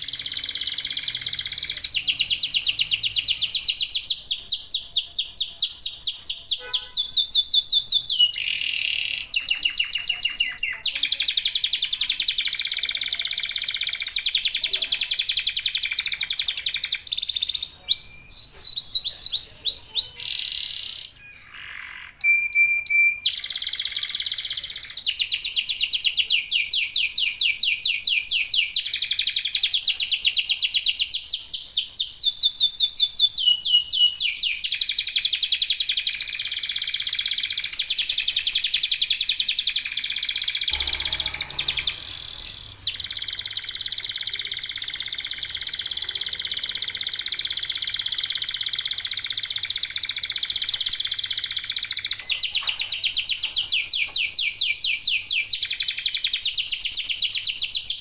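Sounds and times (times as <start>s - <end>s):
canaries singing trills: 0.0s - 58.0s.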